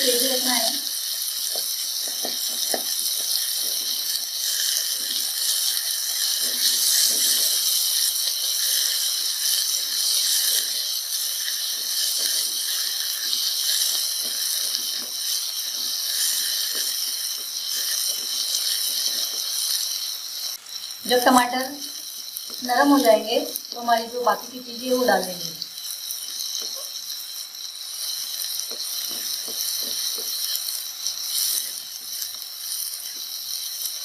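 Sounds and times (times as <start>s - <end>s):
food sizzling in oil: 0.0s - 34.0s.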